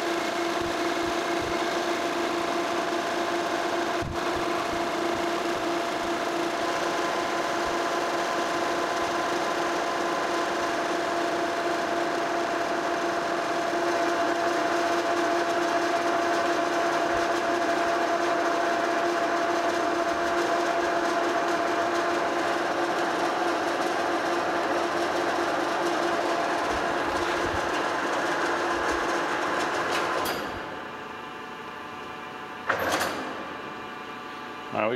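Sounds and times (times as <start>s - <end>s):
lathe humming and whining: 0.0s - 34.9s.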